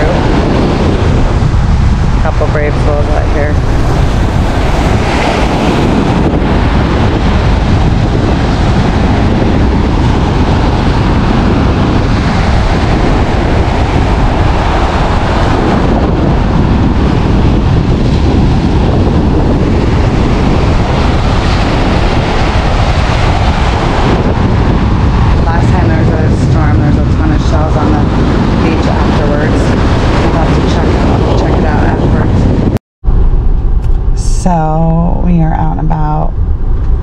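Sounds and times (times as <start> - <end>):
surf breaking on beach: 0.0 - 33.3
wind buffeting microphone: 0.0 - 37.0.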